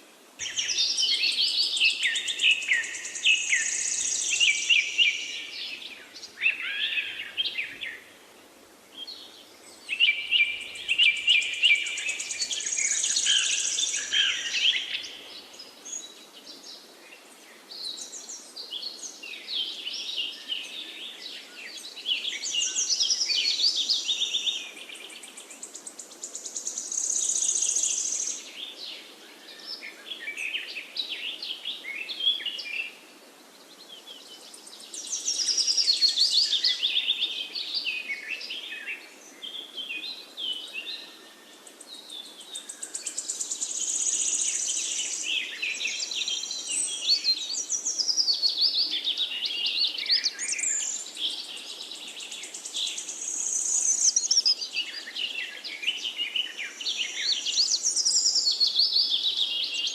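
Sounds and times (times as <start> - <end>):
faint steady background hiss: 0.0 - 59.9
songbirds chirping and trilling: 0.0 - 59.9.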